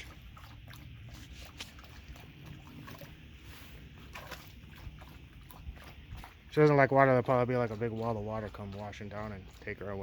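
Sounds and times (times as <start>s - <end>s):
rain runoff flowing: 0.0s - 10.0s.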